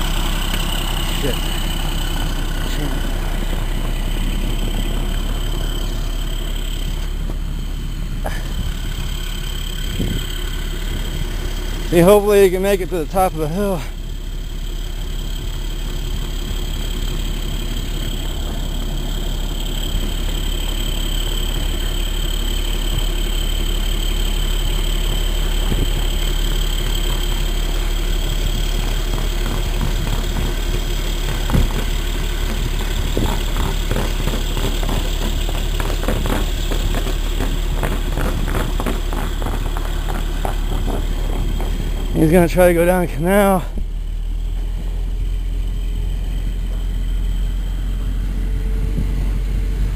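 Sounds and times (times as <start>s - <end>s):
truck diesel engine under load: 0.0s - 49.9s.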